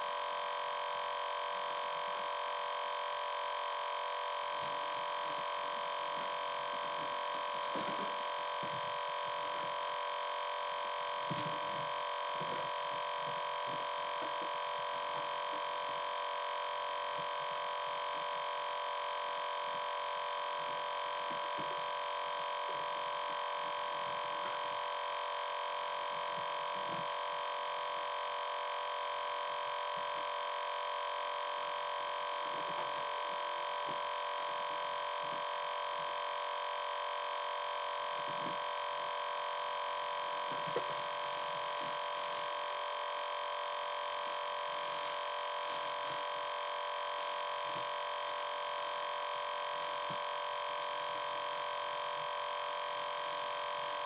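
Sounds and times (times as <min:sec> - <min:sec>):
steady electronic hum: 0:00.0 - 0:54.0.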